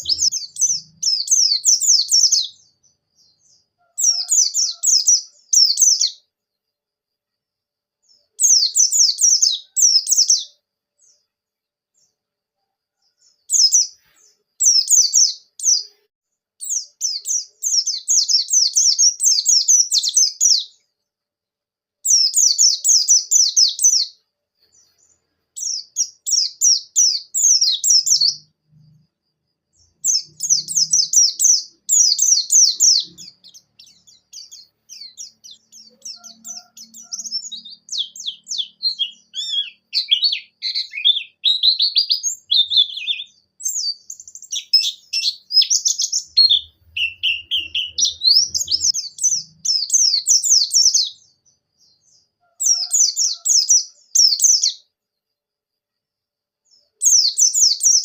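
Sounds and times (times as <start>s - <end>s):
bird twittering song: 0.0s - 6.3s, 8.0s - 11.3s, 12.9s - 21.0s, 22.0s - 54.9s, 56.6s - 58.0s.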